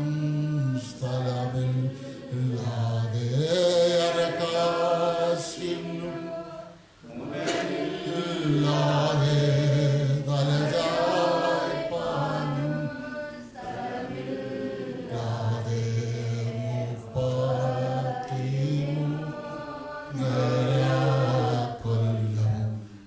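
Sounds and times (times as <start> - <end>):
man singing a hymn: 0.0 - 6.1, 8.0 - 13.5, 15.1 - 22.9.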